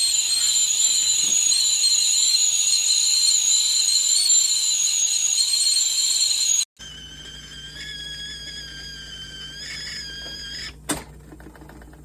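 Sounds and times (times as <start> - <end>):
kettle whistling: 0.0 - 10.8.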